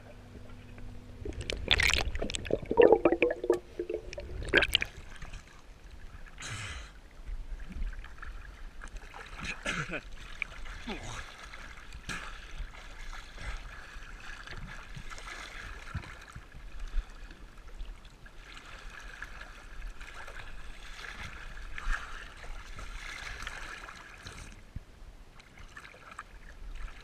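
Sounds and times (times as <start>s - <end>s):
water lapping and sloshing: 0.0s - 27.0s.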